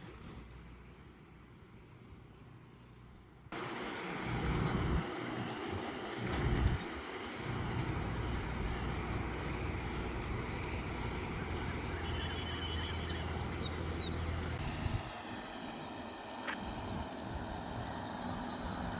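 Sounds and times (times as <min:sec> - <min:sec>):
outdoor hiss: 0:00.0 - 0:16.7
passing vehicle rumble: 0:03.6 - 0:18.9.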